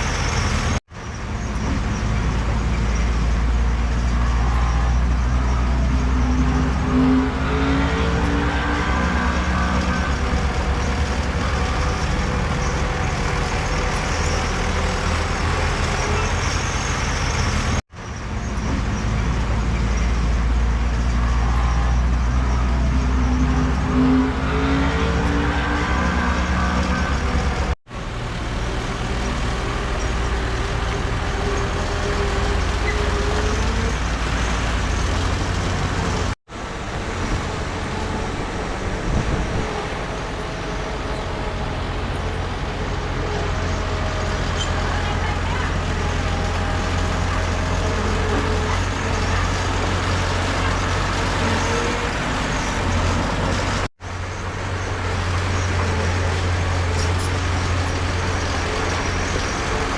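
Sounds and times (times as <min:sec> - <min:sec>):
heavy diesel machinery under load: 0:00.0 - 0:59.9.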